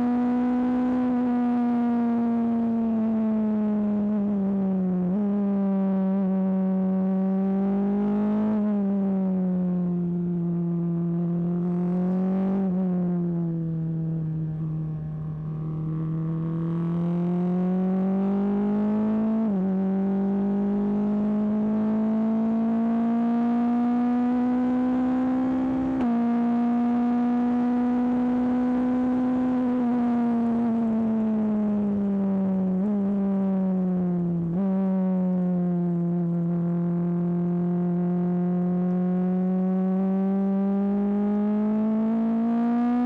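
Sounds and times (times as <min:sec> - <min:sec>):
car engine accelerating and shifting: 0:00.0 - 0:43.0.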